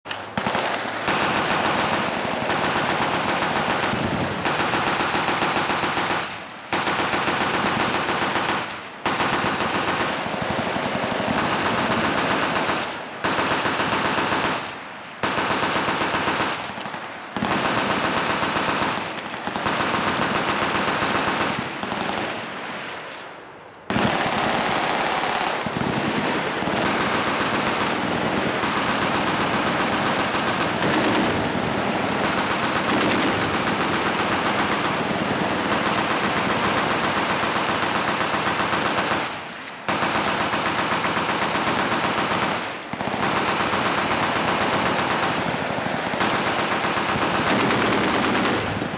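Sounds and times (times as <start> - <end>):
machine gun fire bursts: 0.1 - 22.4, 23.9 - 48.9.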